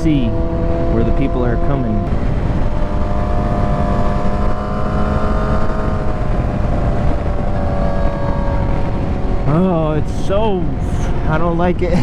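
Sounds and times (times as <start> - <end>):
motorcycle engine running: 0.0 - 11.8
wind and road noise: 0.0 - 12.0.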